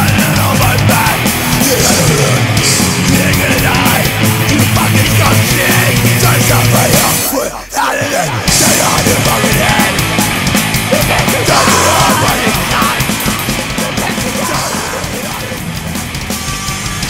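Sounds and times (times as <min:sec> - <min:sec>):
loud metal punk band: 0:00.0 - 0:17.0.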